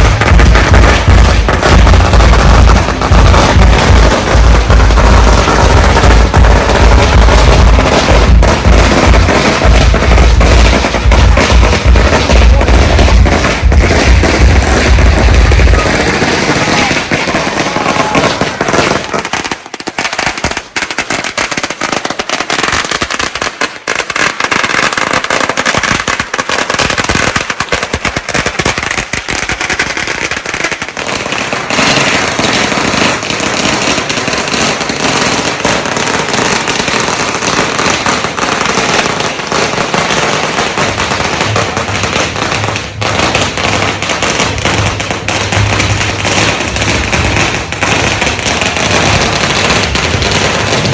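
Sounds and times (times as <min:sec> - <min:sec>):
firecrackers crackling: 0:00.0 - 0:50.9.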